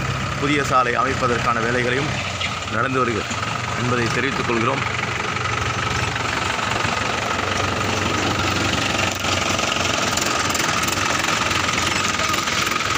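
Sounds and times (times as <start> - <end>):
tractor diesel engine idling: 0.0 - 12.9.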